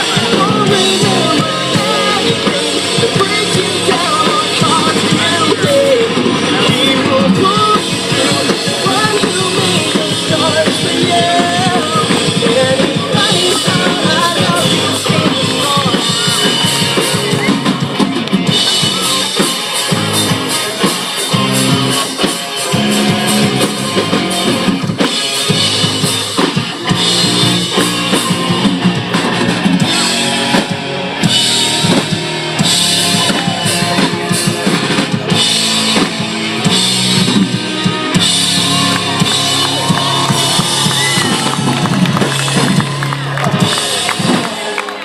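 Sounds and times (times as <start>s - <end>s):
band music: 0.0s - 45.0s
drum kit steady beat: 0.0s - 45.0s
guitar: 0.0s - 45.0s.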